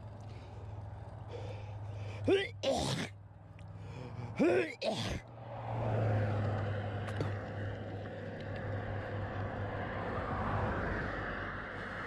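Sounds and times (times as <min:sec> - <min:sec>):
bicycle tyres on paved road: 0:00.0 - 0:12.0.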